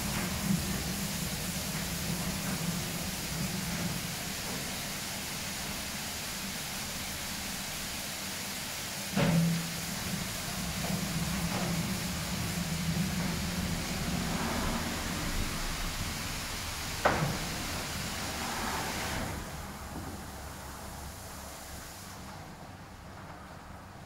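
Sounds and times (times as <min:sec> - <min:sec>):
water spray hissing: 0:00.0 - 0:22.3
car wash machine hum: 0:00.0 - 0:24.0.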